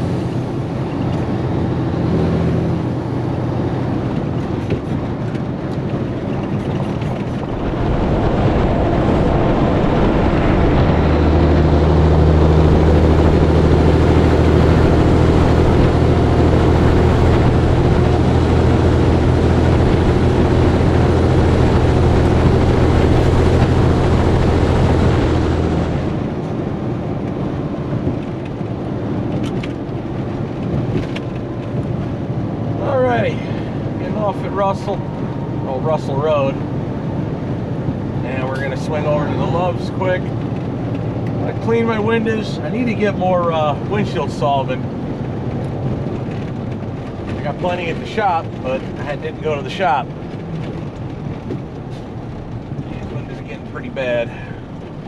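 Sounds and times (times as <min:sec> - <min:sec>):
wind rushing over camera: 0:00.0 - 0:42.4, 0:43.8 - 0:55.0
diesel engine drone: 0:00.0 - 0:55.0
road noise: 0:00.0 - 0:55.0.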